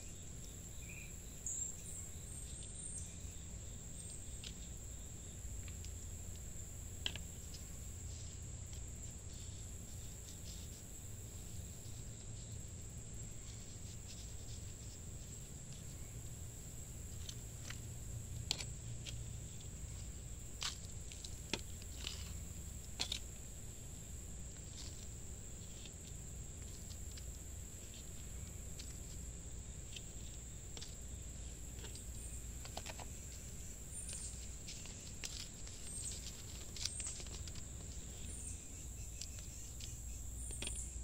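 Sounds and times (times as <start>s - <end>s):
high insect trill: 0.0s - 41.0s.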